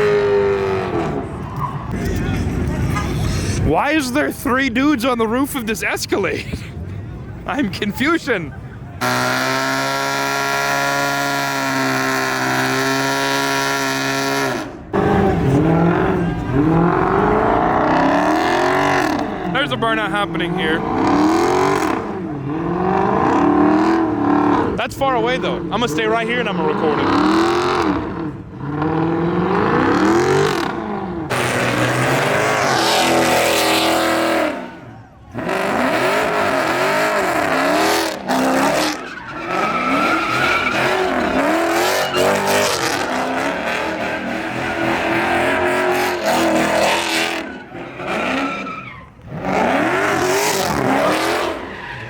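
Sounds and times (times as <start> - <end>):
engine revving up and down: 0.0 - 1.3, 9.0 - 48.6, 49.2 - 51.8
car engine at high revs: 0.0 - 3.7, 9.0 - 52.0.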